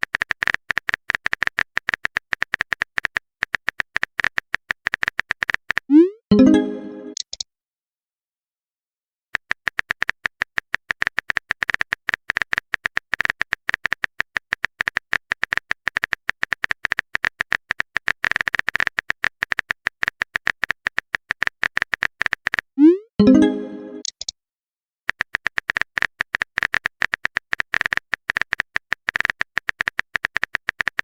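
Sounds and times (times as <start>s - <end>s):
phone keyboard typing clicks: 0.0s - 5.9s, 9.4s - 22.7s, 24.0s - 24.4s, 25.1s - 31.0s.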